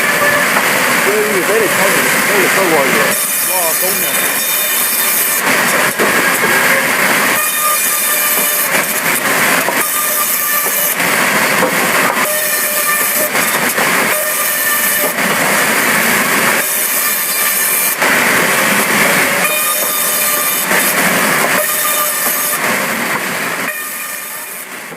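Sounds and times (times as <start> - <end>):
sawmill saw cutting wood: 0.0 - 24.7.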